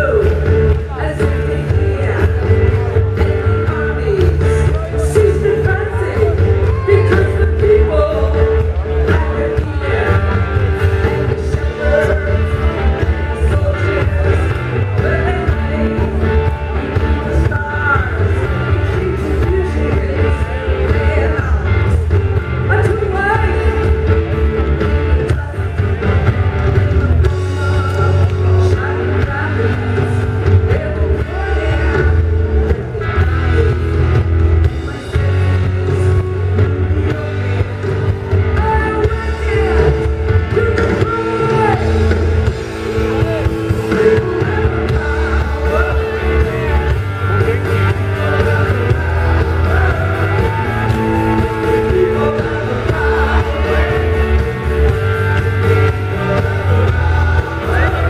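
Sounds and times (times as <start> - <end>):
woman singing lead vocal: 0.0 - 22.0, 22.7 - 24.0, 25.1 - 26.2, 27.0 - 32.3, 33.0 - 58.0
bass guitar: 0.0 - 58.0
electric guitars: 0.0 - 58.0
steady drum beat: 0.0 - 58.0.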